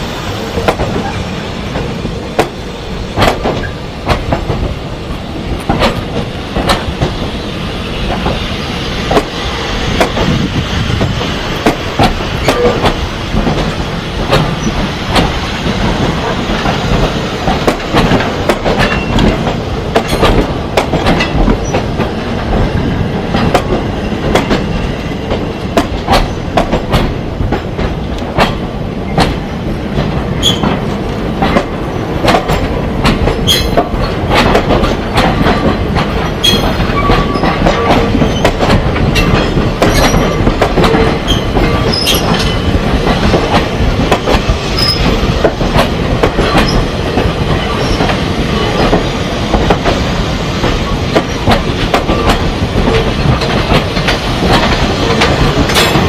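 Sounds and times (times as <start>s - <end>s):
goods train rumbling: 0.0s - 56.0s
wheels clacking over rail joints: 0.4s - 56.0s.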